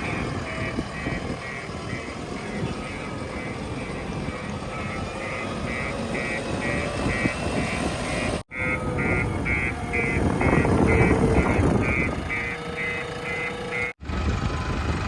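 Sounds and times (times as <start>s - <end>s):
reversing alarm beeping: 0.0s - 14.0s
diesel engine under load: 0.0s - 15.0s.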